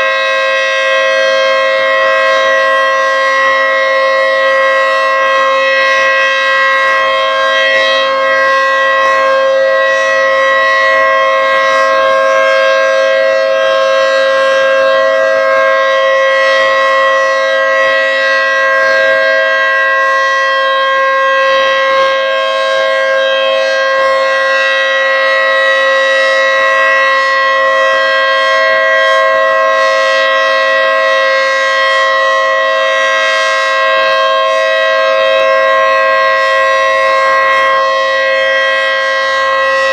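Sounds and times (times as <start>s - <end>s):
tornado siren steady chord: 0.0s - 39.9s.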